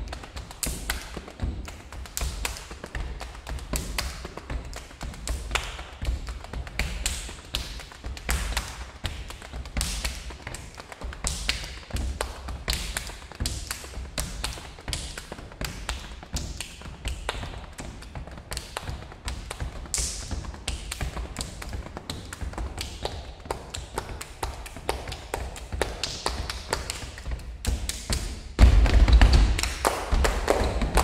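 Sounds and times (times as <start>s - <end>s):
hand claps and taps: 0.0s - 31.0s.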